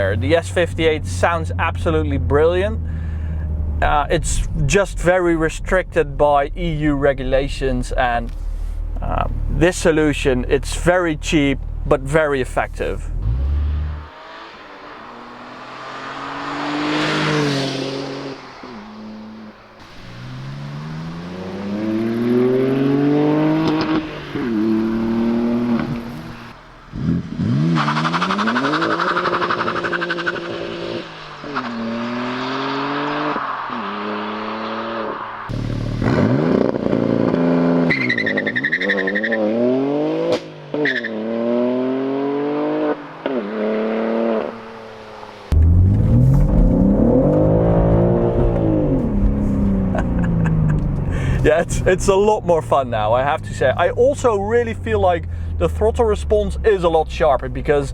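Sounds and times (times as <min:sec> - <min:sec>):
car engine accelerating hard: 0:06.2 - 0:57.9.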